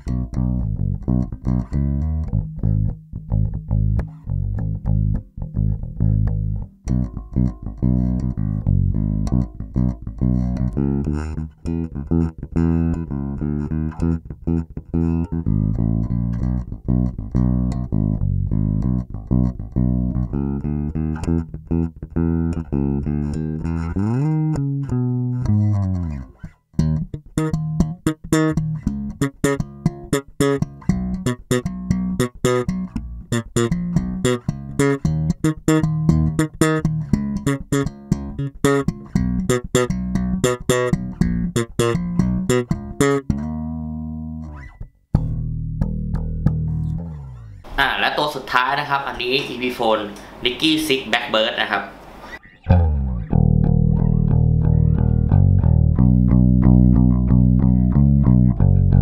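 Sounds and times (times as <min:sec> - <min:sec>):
electric bass notes: 0:00.0 - 0:59.0.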